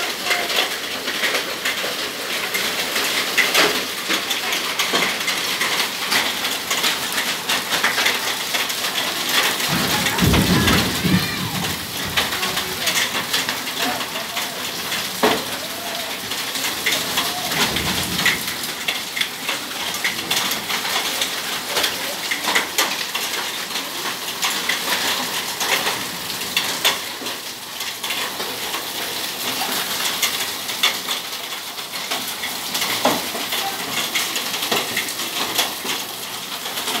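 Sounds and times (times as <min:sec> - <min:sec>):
hailstones ticking on hard surfaces: 0:00.0 - 0:37.0
heavy rain hiss: 0:00.0 - 0:37.0.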